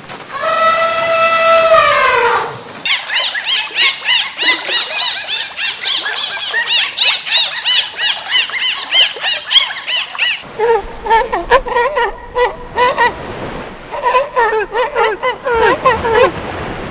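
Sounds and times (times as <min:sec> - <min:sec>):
animals squealing: 0:02.9 - 0:16.7.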